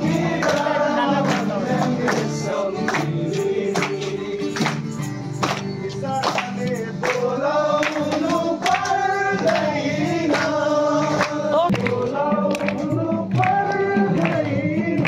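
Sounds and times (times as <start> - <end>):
group of people singing: 0.0 - 15.0
percussion beat: 0.0 - 15.0.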